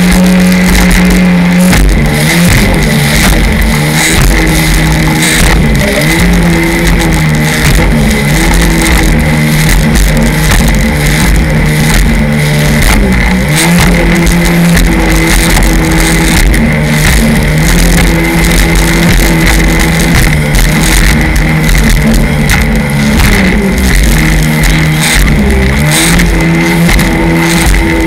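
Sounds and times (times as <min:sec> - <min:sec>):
rushing water: 0:00.0 - 0:28.0
watercraft engine running: 0:00.0 - 0:28.0
wind noise: 0:00.0 - 0:28.0.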